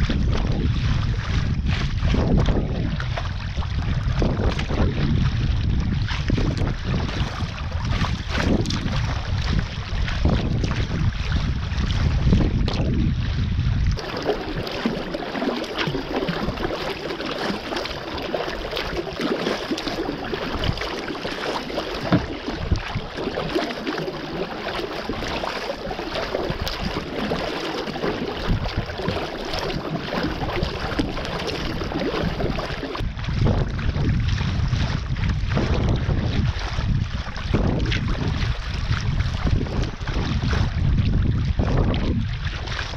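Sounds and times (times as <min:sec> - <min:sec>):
water splashing against kayak: 0:00.0 - 0:42.9
wind buffeting microphone: 0:00.0 - 0:42.9.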